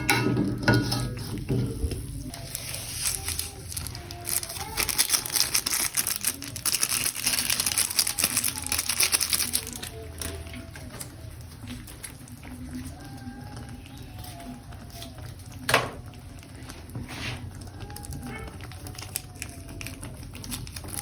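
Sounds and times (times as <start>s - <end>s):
plastic packaging crinkling: 2.3s - 21.0s
small clicks and crackles: 2.3s - 21.0s.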